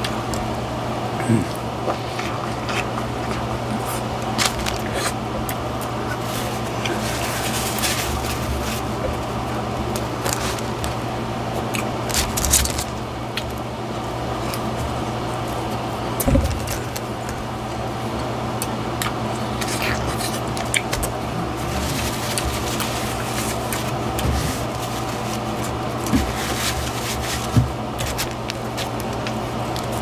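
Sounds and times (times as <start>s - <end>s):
steady low hum: 0.0s - 30.0s
wet burger chewing: 1.3s - 30.0s.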